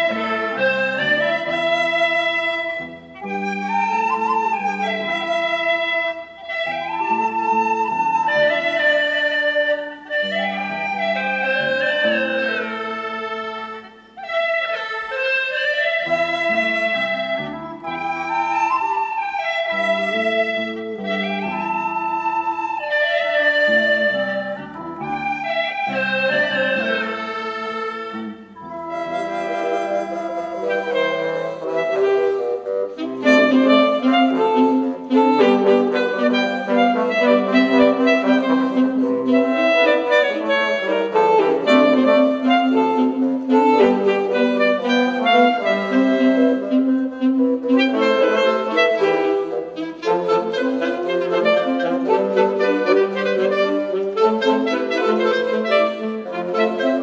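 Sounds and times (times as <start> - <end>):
gourd flute ensemble melody: 0.0 - 57.0
wind ensemble playing: 0.0 - 57.0.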